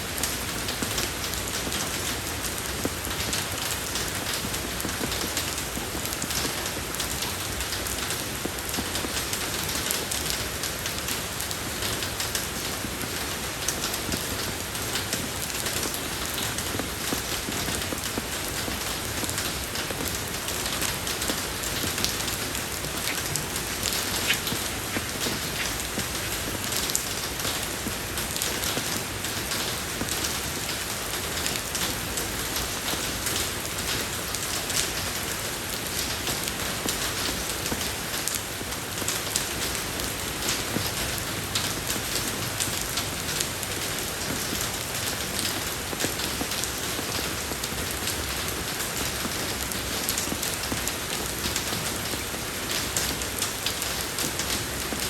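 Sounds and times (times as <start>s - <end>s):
rain falling on road: 0.0s - 55.0s.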